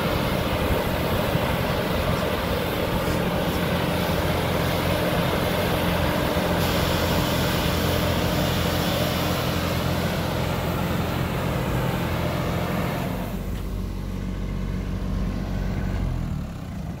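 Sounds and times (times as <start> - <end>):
sprayer fan rush of air: 0.0 - 13.8
tractor diesel engine drone: 0.0 - 17.0.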